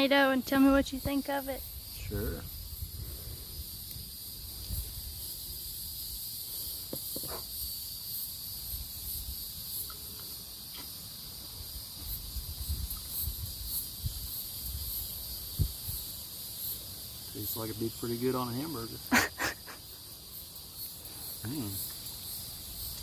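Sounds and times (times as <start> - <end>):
insects chorus drone: 0.0 - 23.0.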